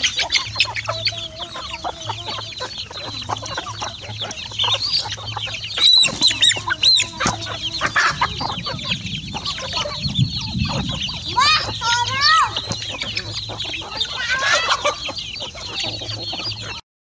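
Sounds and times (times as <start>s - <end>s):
chicks peeping: 0.0s - 16.8s
hens clucking: 0.0s - 16.8s.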